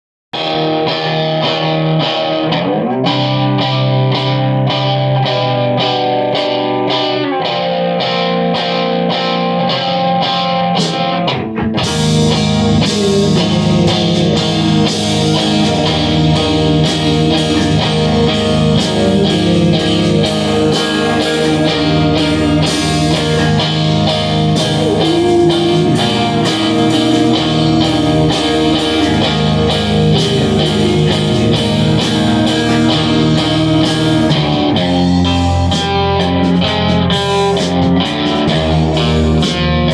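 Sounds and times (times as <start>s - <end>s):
drums: 0.4s - 39.9s
electric guitar: 0.4s - 39.9s
live rock band playing: 0.4s - 39.9s.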